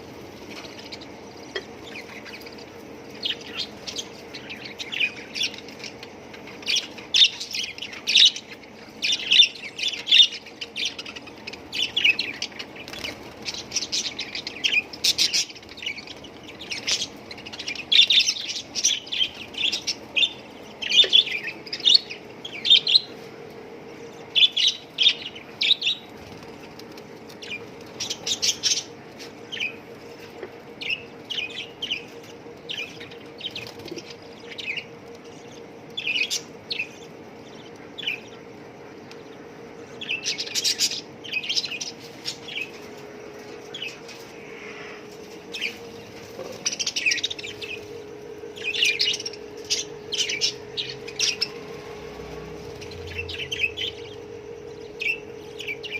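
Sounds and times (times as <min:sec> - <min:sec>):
budgerigars chirping: 0:00.0 - 0:23.2, 0:24.2 - 0:55.9
faint steady hum: 0:00.0 - 0:55.9.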